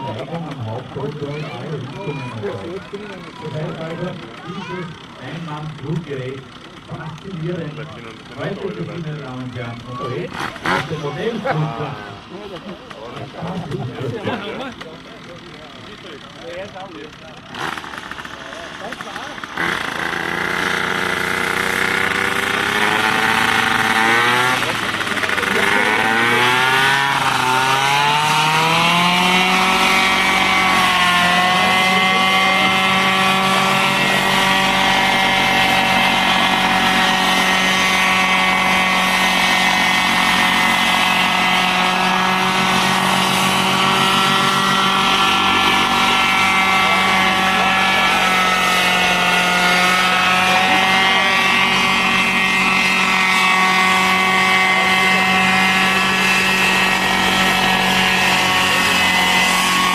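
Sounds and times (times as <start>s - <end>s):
small high-revving helicopter engine: 0.0s - 59.9s.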